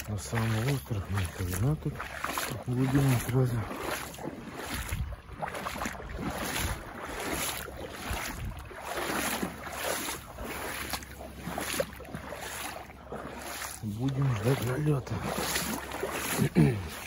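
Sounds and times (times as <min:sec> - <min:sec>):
boots splashing through water: 0:00.0 - 0:17.0.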